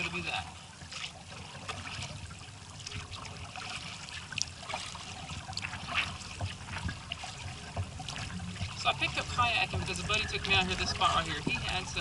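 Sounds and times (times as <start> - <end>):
paddle splashing in water: 0.0 - 12.0
water dripping off paddle: 0.0 - 12.0.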